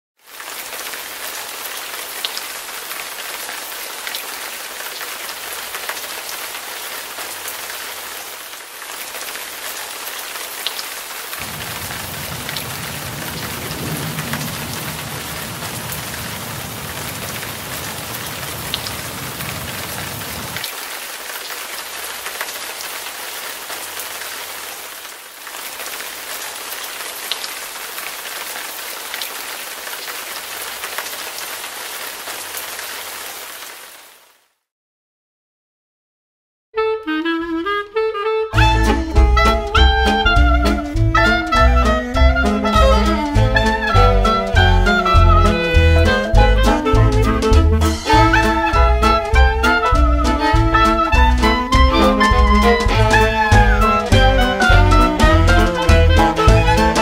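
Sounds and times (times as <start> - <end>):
steady rain falling: 0.2 - 34.7, 38.6 - 57.0.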